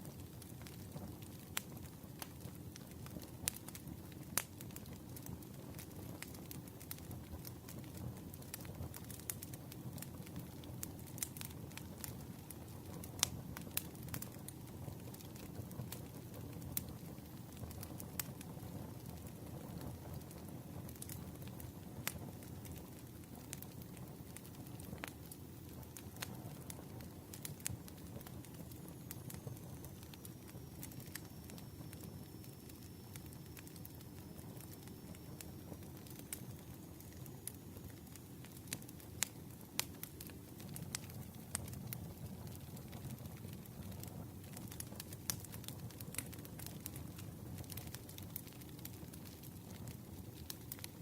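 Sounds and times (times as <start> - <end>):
campfire burning and popping: 0.0 - 51.0.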